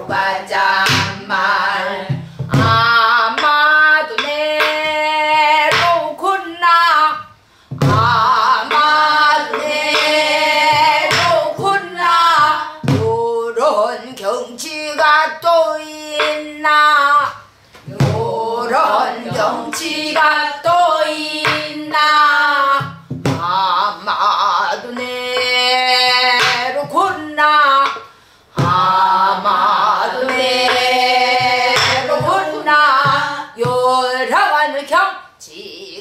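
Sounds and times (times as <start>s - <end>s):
woman singing folk song: 0.0s - 36.0s.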